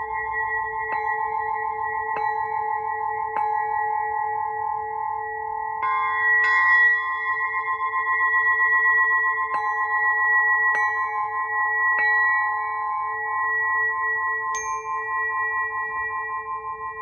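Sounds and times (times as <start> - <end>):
crystal singing pyramid ringing: 0.0 - 17.0.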